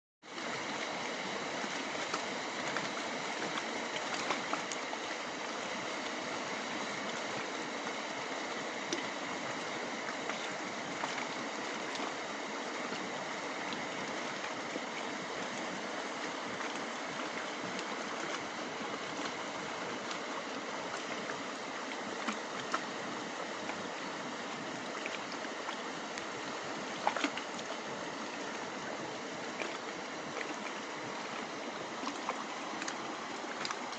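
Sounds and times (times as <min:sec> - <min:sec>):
stream water rushing: 0:00.3 - 0:33.9.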